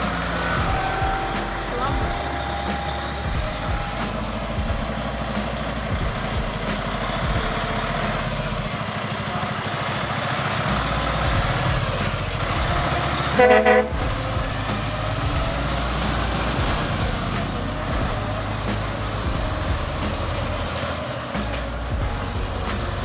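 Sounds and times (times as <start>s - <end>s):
heavy truck traffic: 0.0s - 23.0s
horn blast: 0.0s - 23.0s.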